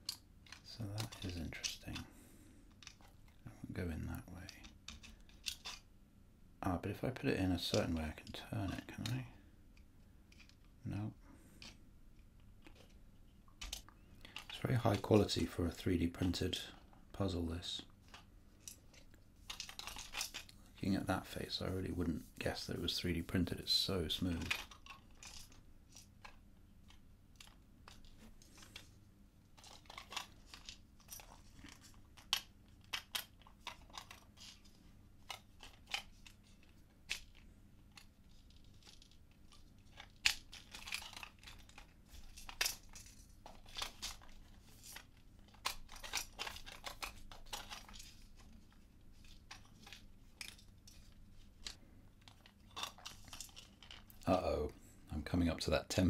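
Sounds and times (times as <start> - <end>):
plastic parts clicking and scraping: 0.0 - 3.4, 4.0 - 5.9, 7.5 - 54.4.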